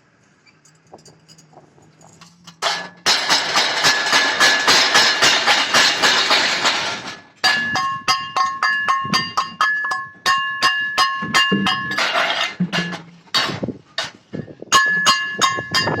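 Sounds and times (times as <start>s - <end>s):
metal striking steel tubing: 2.5s - 16.0s.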